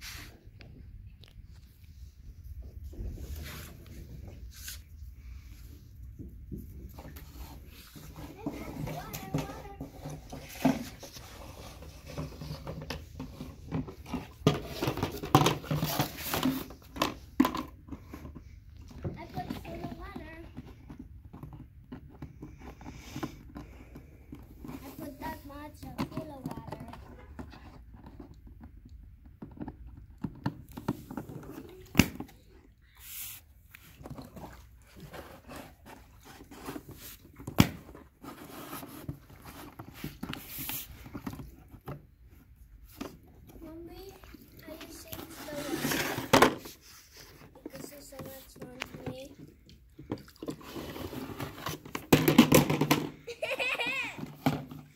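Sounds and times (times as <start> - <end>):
plastic bucket knocks and scrapes: 5.9 - 32.4, 33.8 - 54.9.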